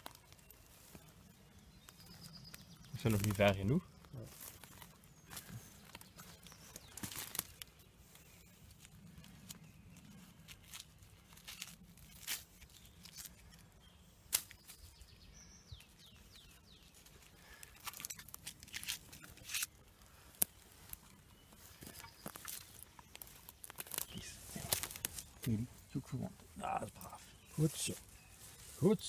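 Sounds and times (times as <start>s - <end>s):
dry grass and twigs crackling: 0.0s - 29.0s.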